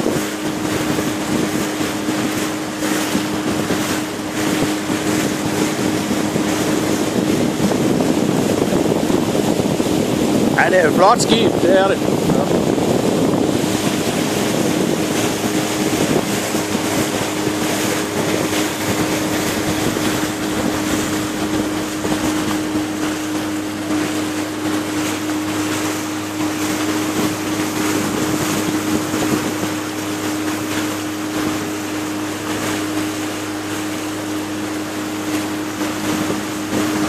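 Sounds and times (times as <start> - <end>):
boat engine running: 0.0 - 37.0
wind noise on microphone: 0.0 - 37.0.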